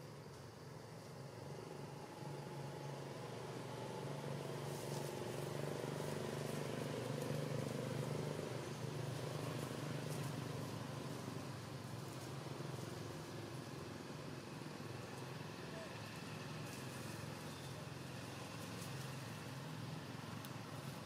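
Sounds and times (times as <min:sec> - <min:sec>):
faint ticks and rustles: 0:00.0 - 0:01.4, 0:03.5 - 0:21.0
distant engine hum: 0:00.0 - 0:21.0.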